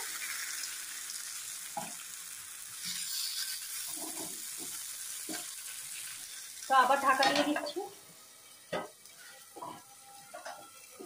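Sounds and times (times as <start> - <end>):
pumpkin sizzling in oil: 0.0 - 11.0.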